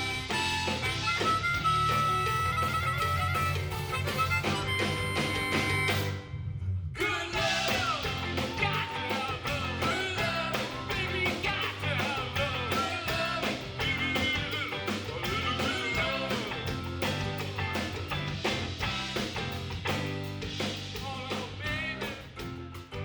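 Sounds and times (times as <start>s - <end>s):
bending lead guitar melody: 0.0s - 6.3s, 7.4s - 20.9s
rock band playing: 0.0s - 6.4s, 7.0s - 23.0s.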